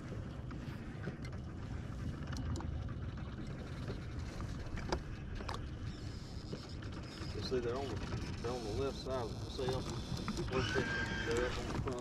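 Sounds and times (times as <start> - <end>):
wind and water rumble: 0.0 - 12.0.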